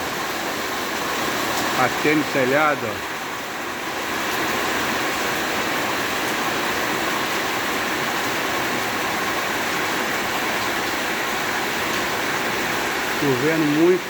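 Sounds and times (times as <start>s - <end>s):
heavy rain on a roof: 0.0s - 14.0s.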